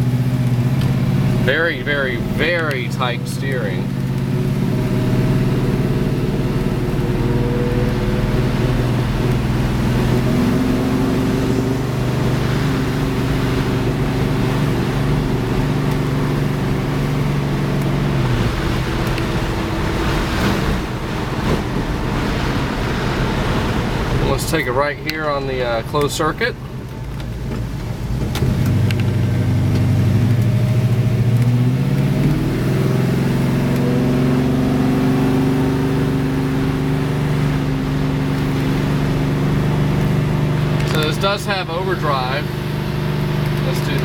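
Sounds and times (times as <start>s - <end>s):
car engine running: 0.0s - 44.0s.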